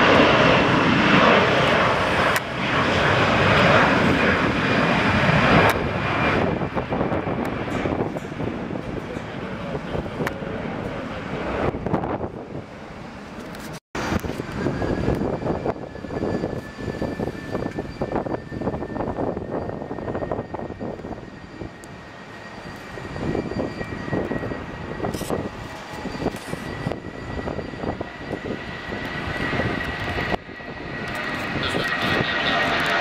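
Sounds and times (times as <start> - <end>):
airliner engines whining: 0.0 - 33.0.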